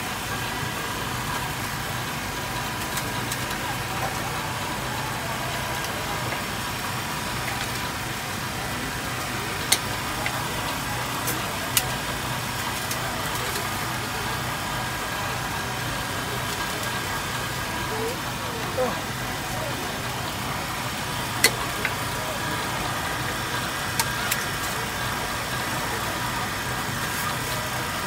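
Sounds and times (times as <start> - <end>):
steady engine hum: 0.0 - 28.0.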